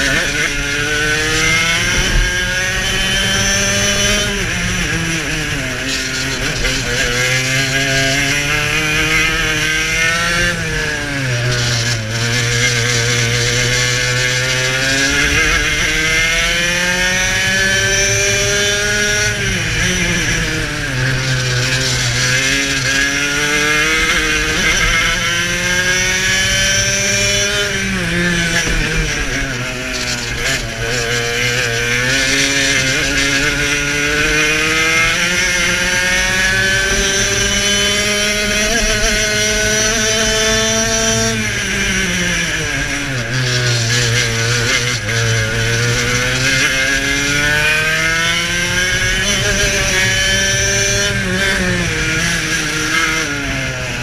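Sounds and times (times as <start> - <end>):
two-stroke kart engine revving: 0.0 - 54.0.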